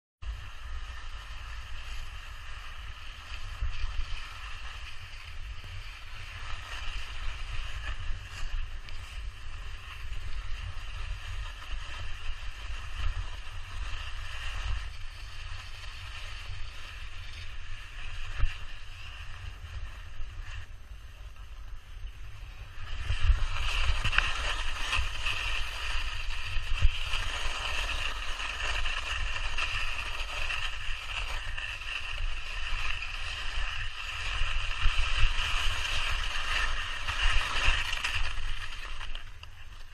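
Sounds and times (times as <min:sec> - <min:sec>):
steady low rumble: 0:00.2 - 0:39.9.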